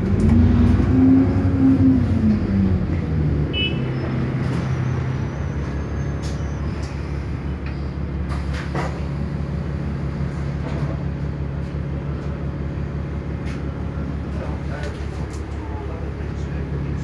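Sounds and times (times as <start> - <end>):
bus engine running at low revs: 0.0 - 17.0.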